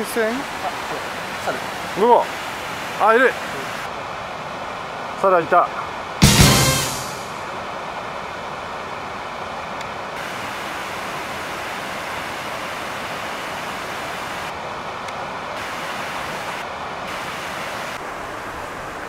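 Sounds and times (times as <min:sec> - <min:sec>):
water rushing over rapids: 0:00.0 - 0:06.2, 0:07.2 - 0:19.0.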